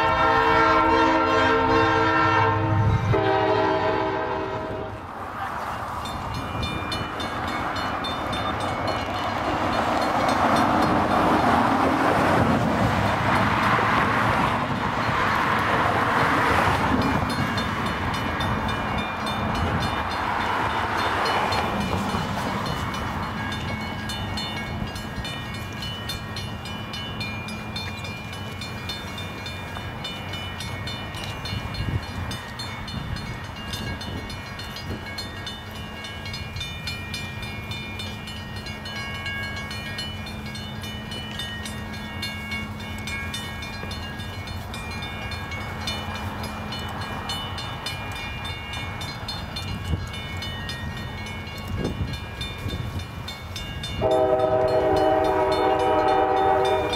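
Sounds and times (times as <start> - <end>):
crossing warning bell ringing: 0.0 - 56.9
distant diesel train hum: 0.0 - 56.9.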